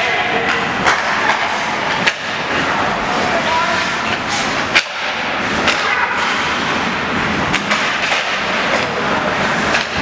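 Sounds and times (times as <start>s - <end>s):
arena noise: 0.0s - 10.0s
hockey sticks and puck clacking: 0.0s - 10.0s.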